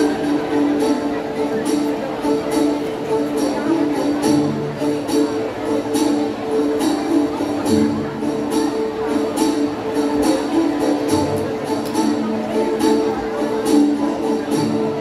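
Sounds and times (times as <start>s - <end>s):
dance music over loudspeakers: 0.0s - 15.0s.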